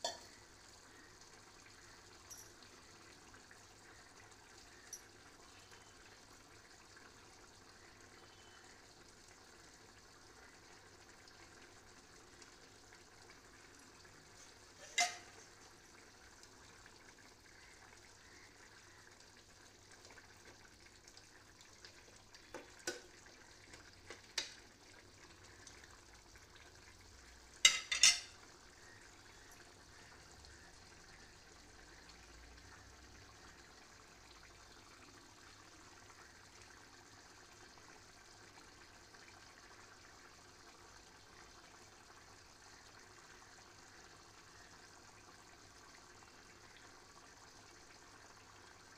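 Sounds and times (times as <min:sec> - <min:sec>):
curry bubbling in a pan: 0:00.0 - 0:48.9.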